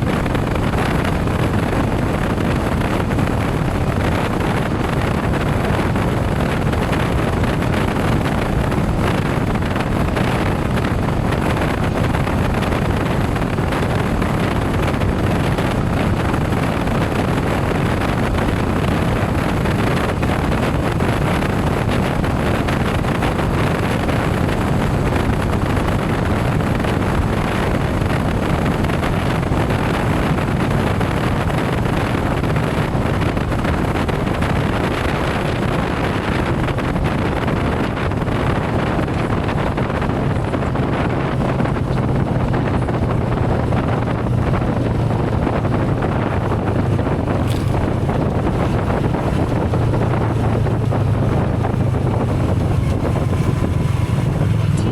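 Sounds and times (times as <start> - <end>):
motorcycle engine hum: 0.0 - 54.9
wind rushing over microphone: 0.0 - 54.9.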